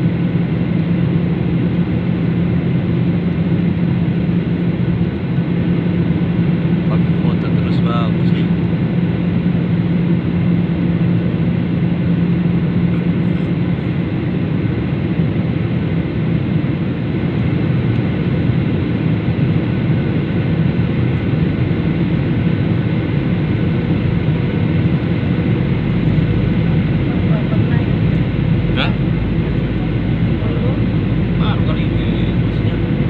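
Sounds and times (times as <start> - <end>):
jet engines in flight: 0.0 - 33.0
low hum: 0.0 - 33.0.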